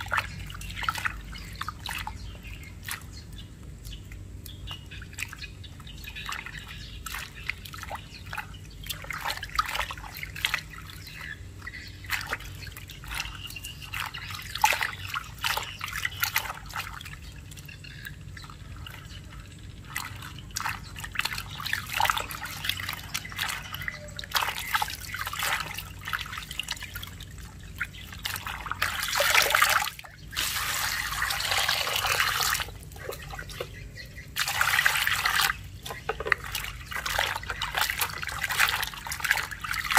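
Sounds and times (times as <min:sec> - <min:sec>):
water splashing in metal basin: 0:00.0 - 0:39.9.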